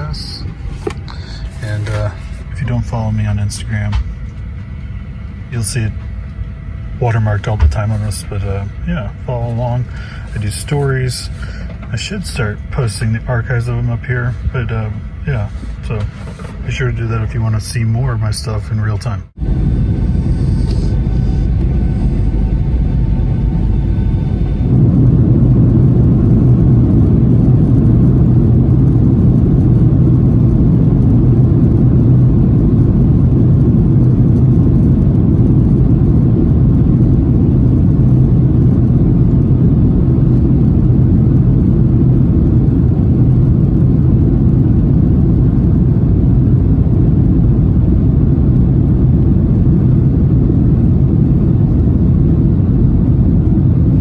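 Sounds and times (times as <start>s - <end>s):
jet cabin engine rumble: 0.0s - 54.0s.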